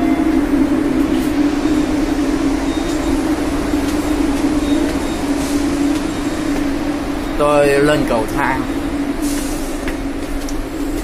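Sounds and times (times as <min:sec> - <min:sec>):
subway train rumbling hum: 0:00.0 - 0:11.0.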